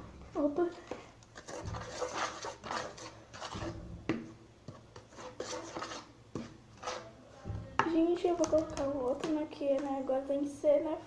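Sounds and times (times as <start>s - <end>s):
spoon stirring dough: 0.4s - 10.0s.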